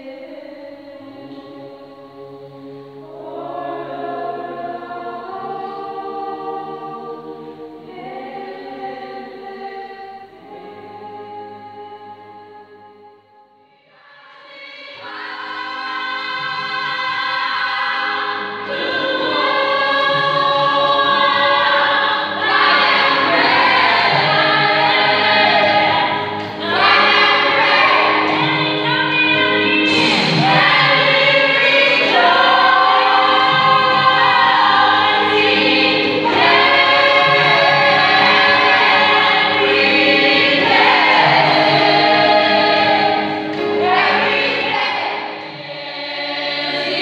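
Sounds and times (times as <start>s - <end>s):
gospel choir singing in harmony: 0.0s - 13.2s, 13.8s - 47.0s.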